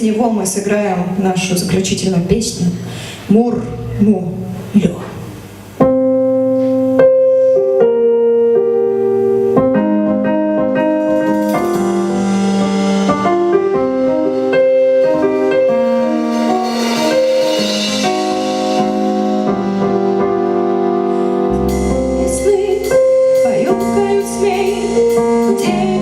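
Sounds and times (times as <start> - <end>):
keyboard chords from live band: 2.9 - 26.0.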